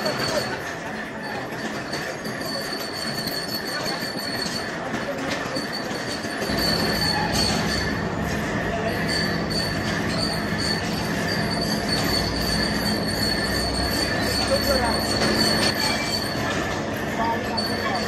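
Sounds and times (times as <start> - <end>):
machining noise: 0.0 - 18.0.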